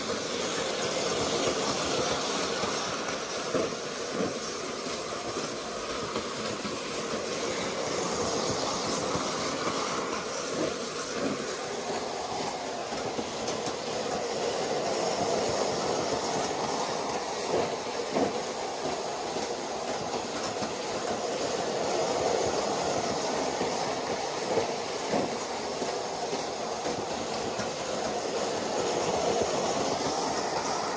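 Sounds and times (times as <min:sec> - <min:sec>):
model train clicks: 0:00.0 - 0:30.9
model train whirring rumble: 0:00.0 - 0:30.9.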